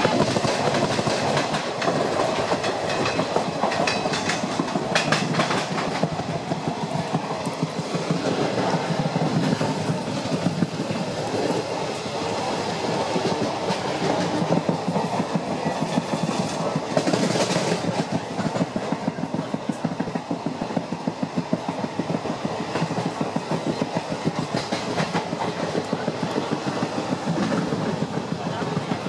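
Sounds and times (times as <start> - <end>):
train rumble: 0.0 - 29.0
wheels rattling over rails: 0.0 - 29.0.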